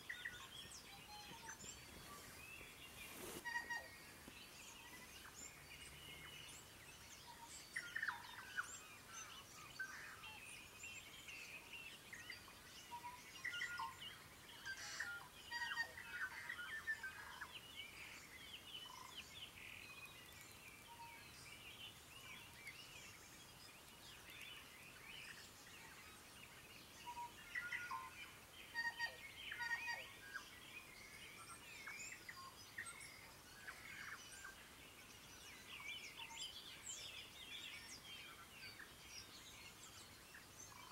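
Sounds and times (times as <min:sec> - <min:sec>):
birds singing and calling: 0:00.0 - 0:40.9.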